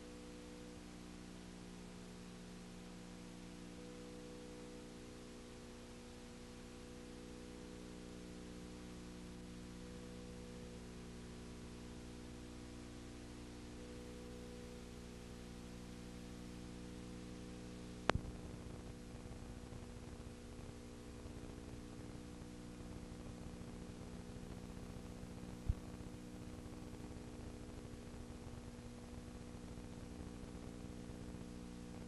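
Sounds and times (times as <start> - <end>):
electrical hum: 0.0 - 32.0
recording hiss: 0.0 - 32.0.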